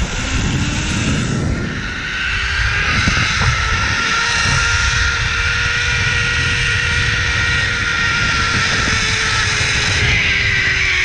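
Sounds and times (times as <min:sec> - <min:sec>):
wind rumble on microphone: 0:00.0 - 0:11.0
zipline pulleys whining on cable: 0:00.0 - 0:11.0.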